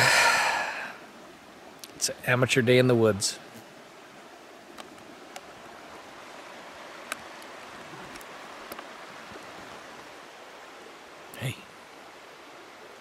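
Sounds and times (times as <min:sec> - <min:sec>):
river running over gravel: 0:00.0 - 0:13.0.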